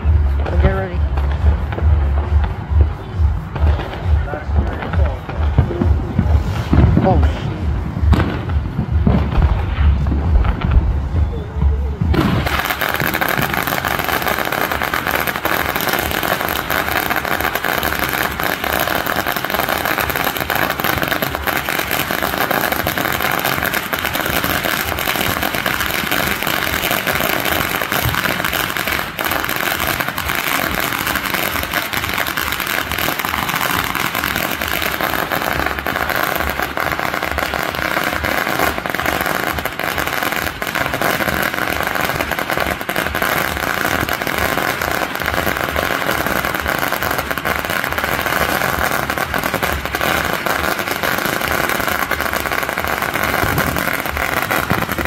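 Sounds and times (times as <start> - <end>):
string of firecrackers going off: 0.0 - 55.0.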